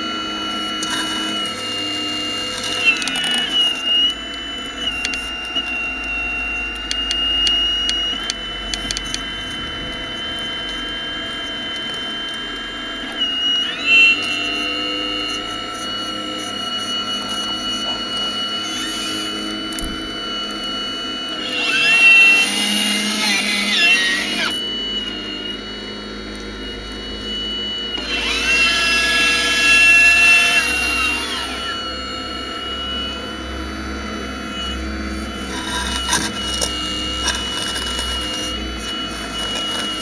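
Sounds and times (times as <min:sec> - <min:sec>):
electric motors whining: 0:00.0 - 0:40.0.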